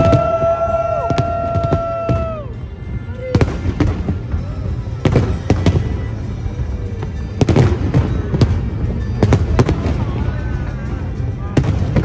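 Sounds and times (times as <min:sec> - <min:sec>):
continuous low rumble: 0:00.0 - 0:12.0
fireworks bursting with sharp bangs: 0:00.0 - 0:12.0.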